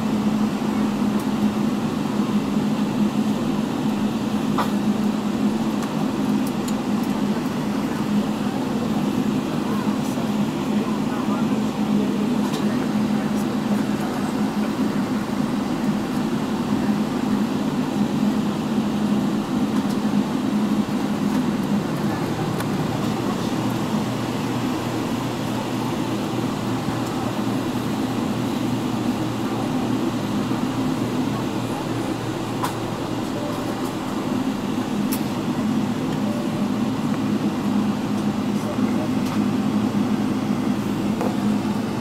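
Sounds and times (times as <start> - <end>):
aircraft cabin rumble: 0.0 - 42.0.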